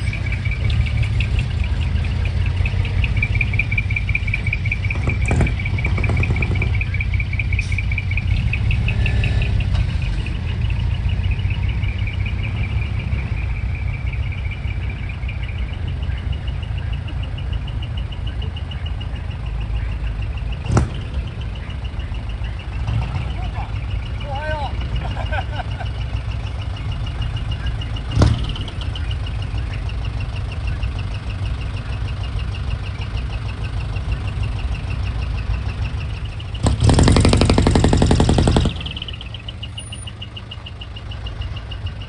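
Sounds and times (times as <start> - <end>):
truck engines idling: 0.0 - 42.0.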